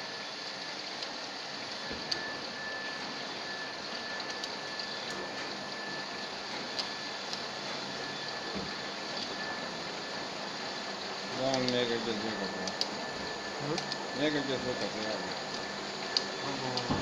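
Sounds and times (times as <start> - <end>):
dry-cleaning machine hissing: 0.0 - 17.0
high machine whine: 0.0 - 17.0.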